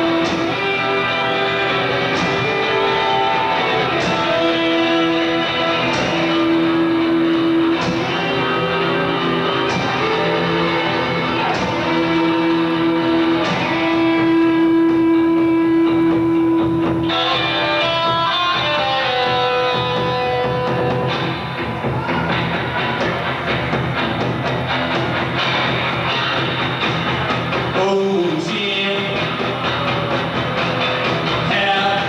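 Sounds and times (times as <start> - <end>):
electric guitar sustained notes: 0.0 - 32.0
live rock band playing: 0.0 - 32.0.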